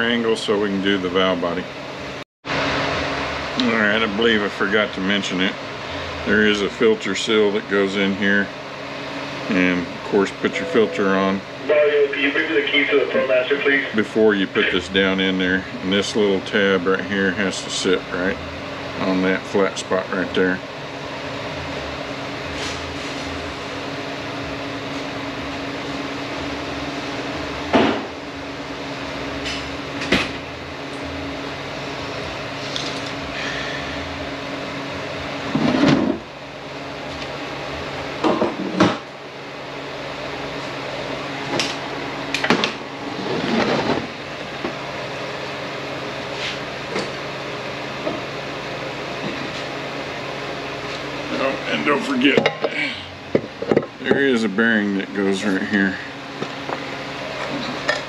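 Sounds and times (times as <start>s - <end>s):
workshop fan hum: 0.0s - 58.0s.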